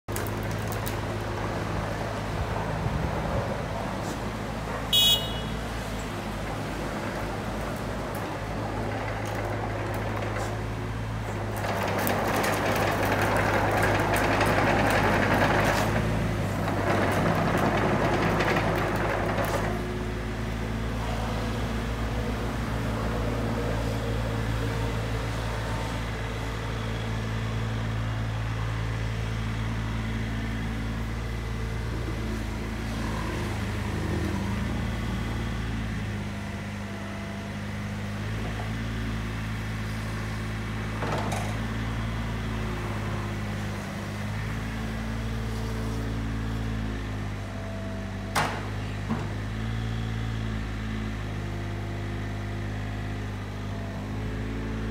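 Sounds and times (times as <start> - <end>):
excavator diesel engine running: 0.1 - 54.9.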